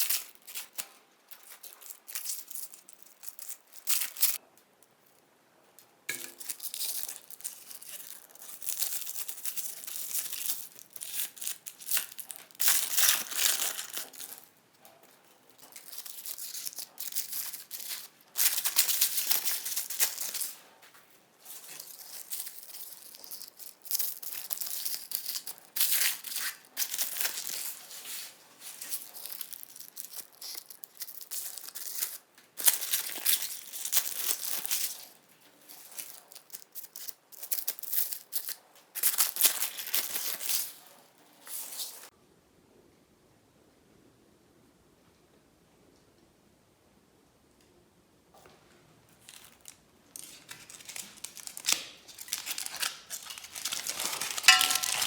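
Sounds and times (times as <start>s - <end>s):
foil wrappers crinkling and tearing: 0.0s - 4.4s, 6.2s - 42.1s, 49.1s - 55.0s.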